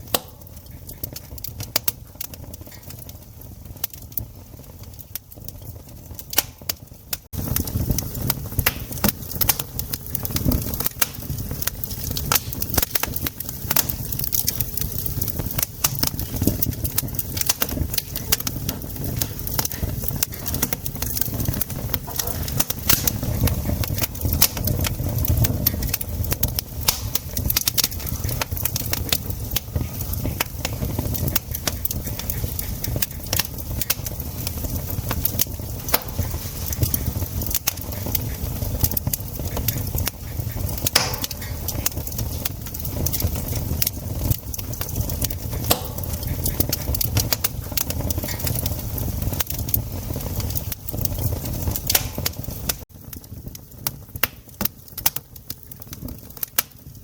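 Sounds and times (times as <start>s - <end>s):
sharp pops and snaps: 0.0s - 3.0s, 3.8s - 56.9s
wood fire crackling: 0.0s - 57.0s.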